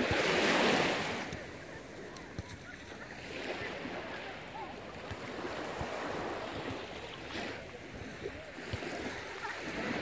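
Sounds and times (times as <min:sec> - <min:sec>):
sea water washing at shore: 0:00.0 - 0:10.0.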